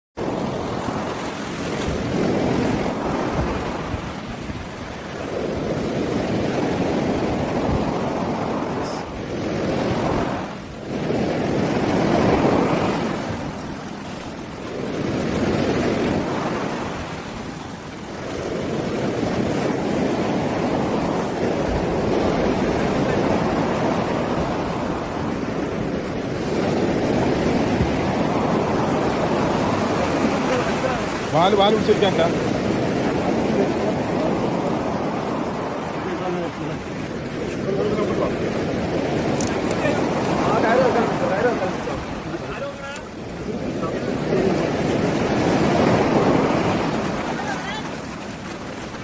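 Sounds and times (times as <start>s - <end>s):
surf breaking on beach: 0.2s - 49.0s
wind buffeting microphone: 0.2s - 49.0s.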